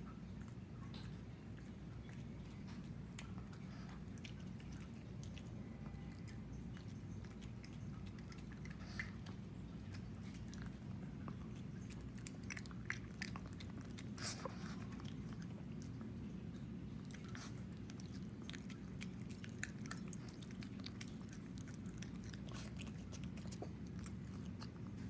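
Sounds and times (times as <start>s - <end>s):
dog chewing and smacking: 0.0s - 25.0s
steady low hum: 0.0s - 25.0s.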